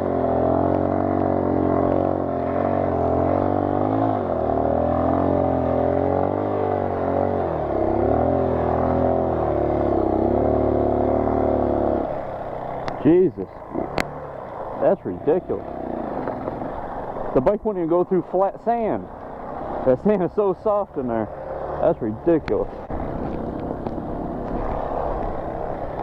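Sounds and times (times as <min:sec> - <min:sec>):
small motorcycle engine bogging down: 0:00.0 - 0:26.0.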